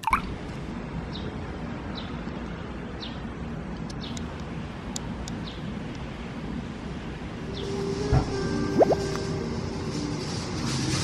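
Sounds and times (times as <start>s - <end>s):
steady low street hum: 0.0s - 11.0s.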